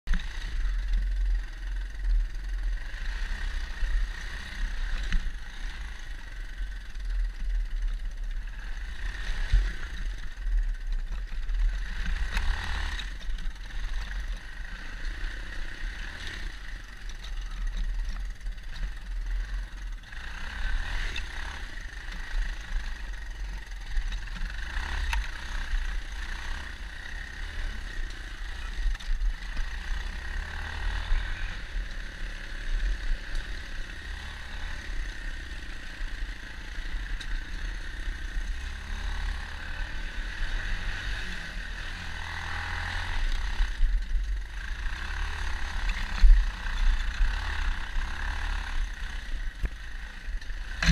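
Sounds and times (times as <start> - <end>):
dirt bike engine running: 0.1 - 50.9.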